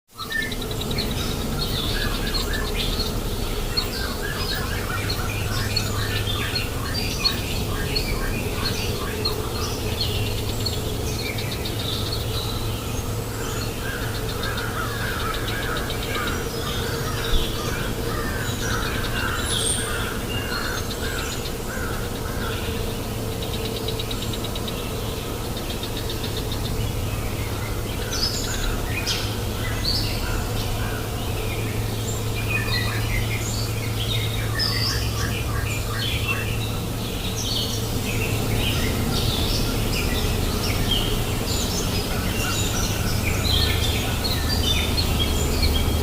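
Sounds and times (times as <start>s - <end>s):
birds calling and chirping: 0.1s - 46.0s.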